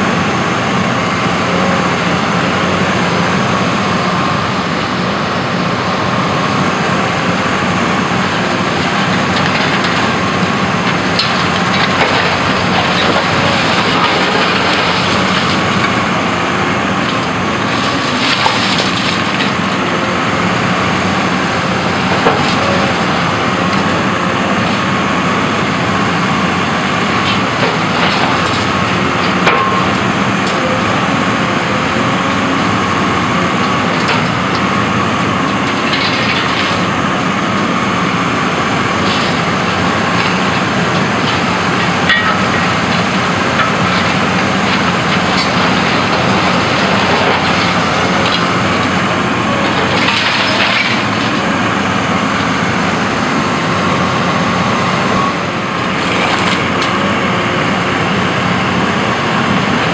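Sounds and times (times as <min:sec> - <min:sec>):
excavator engine running: 0:00.0 - 0:59.9
masonry and timber crashing: 0:07.3 - 0:57.3.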